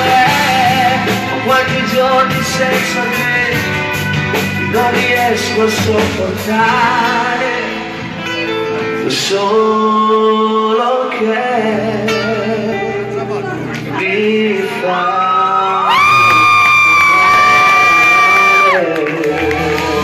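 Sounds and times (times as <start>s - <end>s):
man singing into microphone: 0.0s - 4.0s, 4.6s - 20.0s
amplified backing music: 0.0s - 20.0s.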